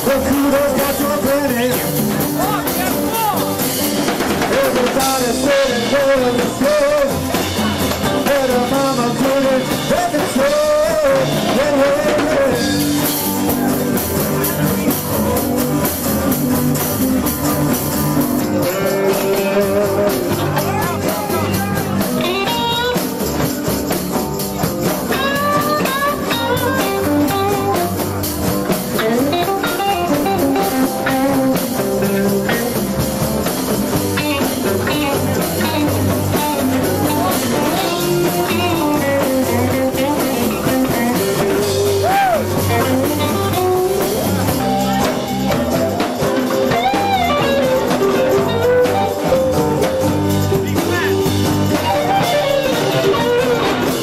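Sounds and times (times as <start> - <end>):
blues guitar with bent notes: 0.0 - 54.0
steady drum beat: 0.0 - 54.0.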